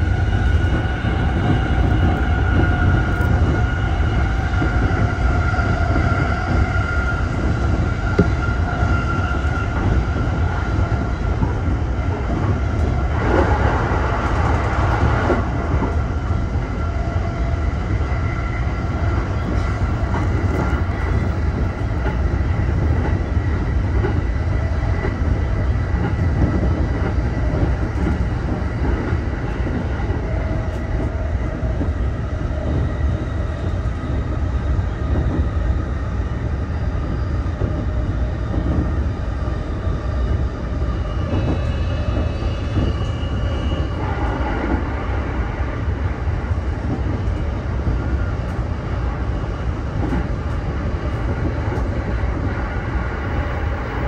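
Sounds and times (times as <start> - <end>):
electric train rumble with whine: 0.0 - 54.0.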